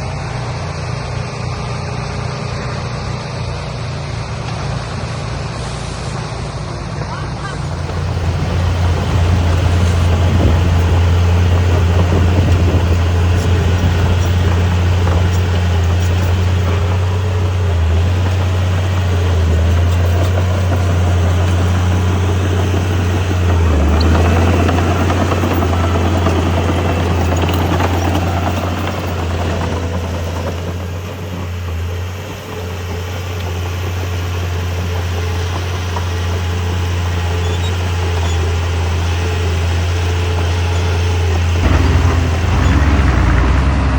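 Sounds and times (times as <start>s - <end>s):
heavy diesel engine droning: 0.0s - 43.9s.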